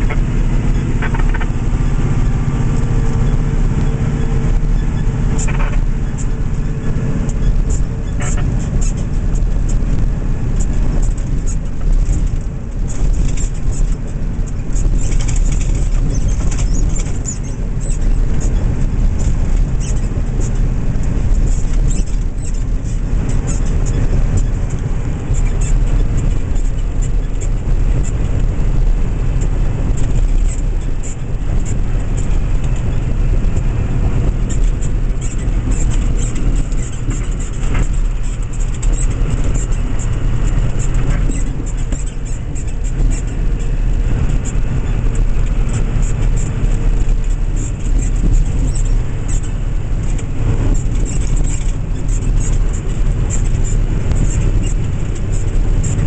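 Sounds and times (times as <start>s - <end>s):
diesel truck engine cruising: 0.0s - 56.0s
light ticks and rattles: 0.0s - 56.0s
road and tyre noise: 0.0s - 56.0s.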